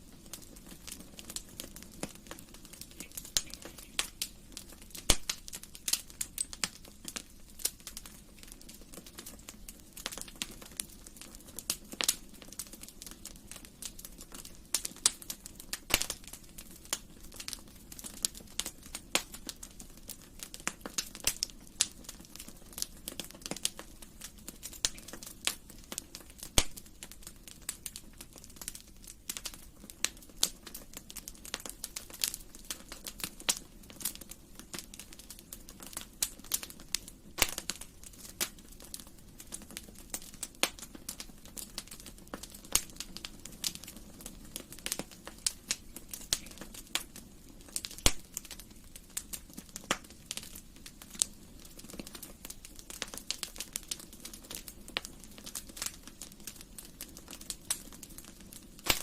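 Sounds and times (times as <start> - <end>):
wood fire crackling: 0.0 - 59.0
loud fire pops: 0.2 - 59.0.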